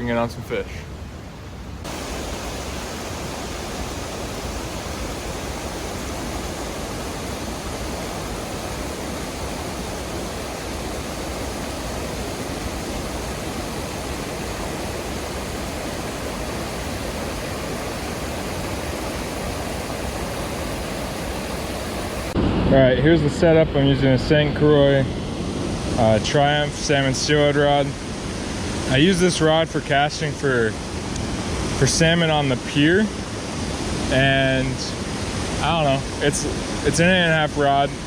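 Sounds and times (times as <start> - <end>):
creek water rushing over falls: 1.8 - 22.4, 25.6 - 38.0.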